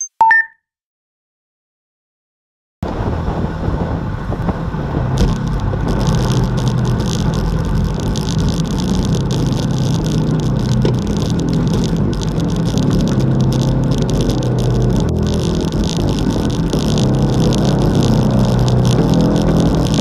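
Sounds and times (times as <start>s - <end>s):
tyre and road noise: 2.8s - 20.0s
wind rushing over microphone: 2.8s - 20.0s.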